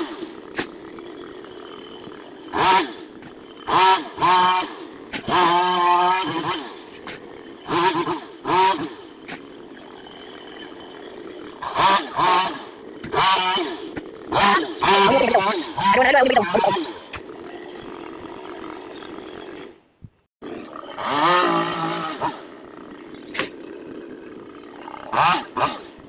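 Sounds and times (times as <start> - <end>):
chainsaw idling and revving: 0.0 - 19.8, 20.4 - 26.0.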